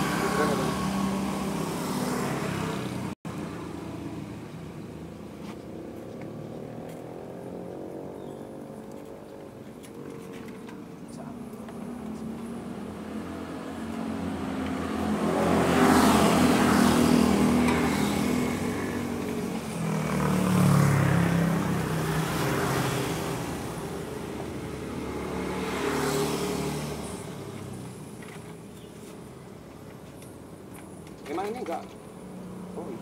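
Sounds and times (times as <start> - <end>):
vehicle engines passing: 0.0 - 33.0.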